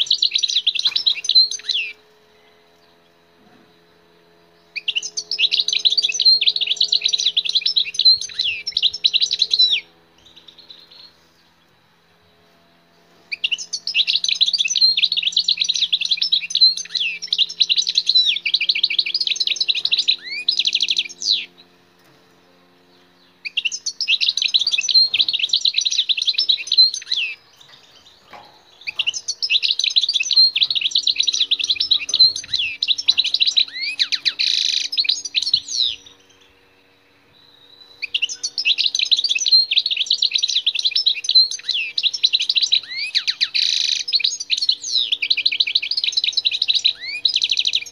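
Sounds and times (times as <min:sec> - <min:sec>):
goldfinch twittering song: 0:00.0 - 0:47.9.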